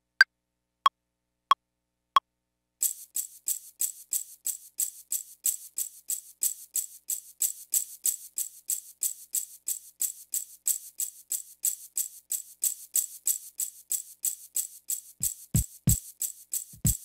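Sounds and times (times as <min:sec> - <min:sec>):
hissy percussion sample: 0:02.8 - 0:17.0.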